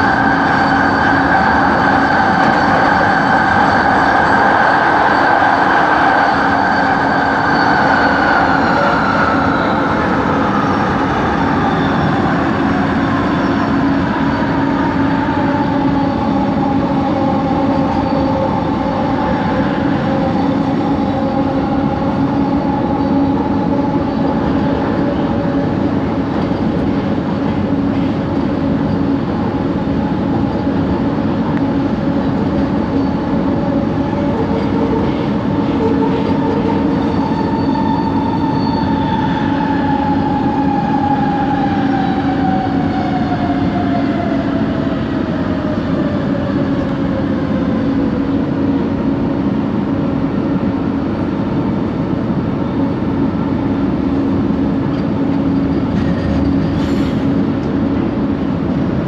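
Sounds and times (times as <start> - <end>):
electric train rolling rumble: 0.0 - 59.0.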